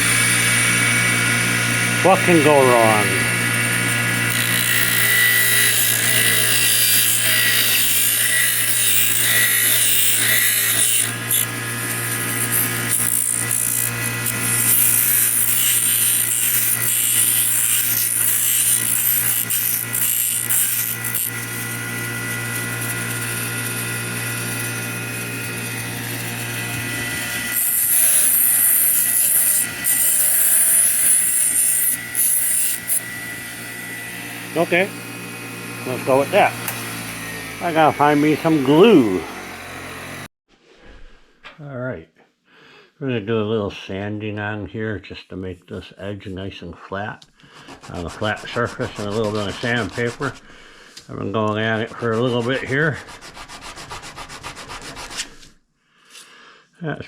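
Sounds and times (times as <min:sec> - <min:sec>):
electric grinder grinding: 0:00.0 - 0:40.3, 0:47.5 - 0:55.5.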